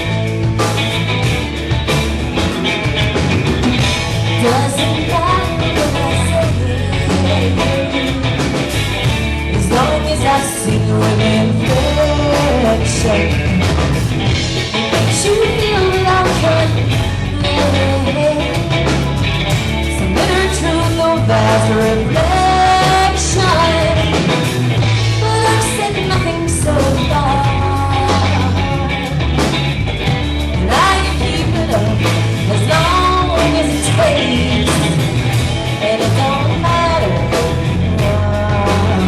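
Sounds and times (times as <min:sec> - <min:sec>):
drums: 0:00.0 - 0:39.0
electric bass: 0:00.0 - 0:39.0
guitar: 0:00.0 - 0:39.0
person singing lead vocal: 0:04.1 - 0:29.5, 0:30.4 - 0:39.0.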